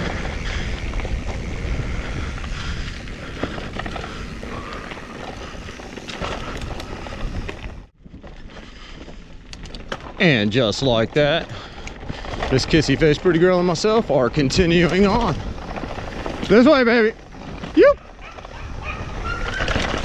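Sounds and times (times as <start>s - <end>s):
wind buffeting microphone: 0.0s - 7.9s, 11.5s - 20.0s
bike clicks and rattles: 0.0s - 20.0s
tyres rolling over dirt: 0.0s - 20.0s.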